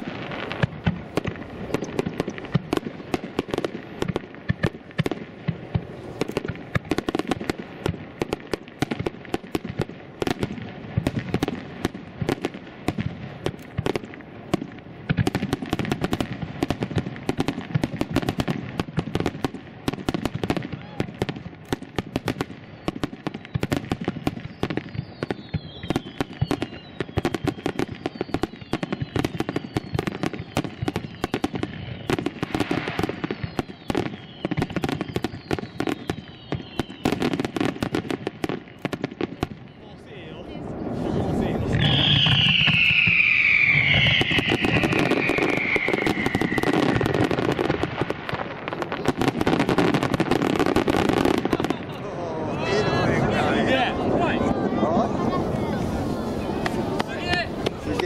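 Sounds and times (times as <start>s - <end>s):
fireworks whistles: 0.0s - 52.0s, 52.6s - 58.0s
fireworks bangs and crackling: 0.0s - 58.0s.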